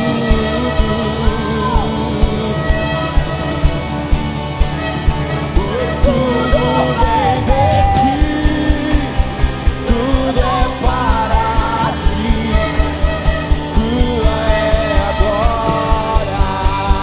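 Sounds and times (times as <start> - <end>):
voices singing: 0.0 - 17.0
worship band playing: 0.0 - 17.0.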